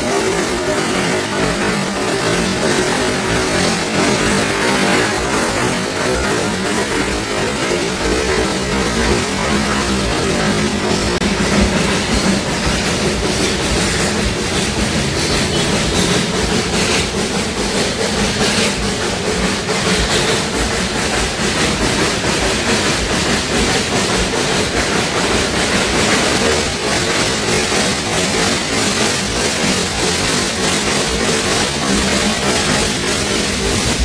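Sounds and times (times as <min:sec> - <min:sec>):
train wheels clattering over rail joints: 0:00.0 - 0:34.0.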